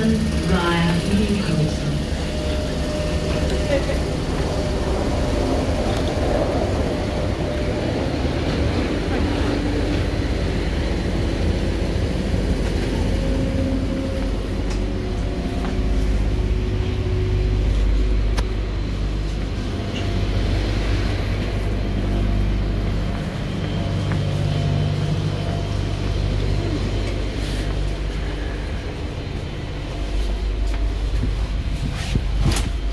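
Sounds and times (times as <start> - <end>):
faint humming tones: 0.0 - 32.9
train interior low rumble: 0.0 - 32.9.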